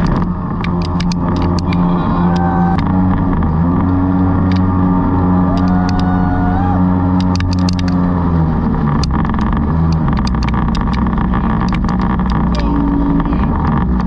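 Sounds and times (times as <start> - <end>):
jet boat engine running: 0.0 - 14.0.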